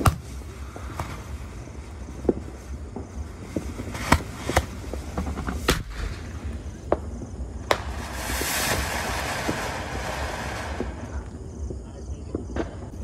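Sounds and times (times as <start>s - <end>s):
firework bangs: 0.0s - 13.0s
firework fountain hissing: 0.0s - 13.0s.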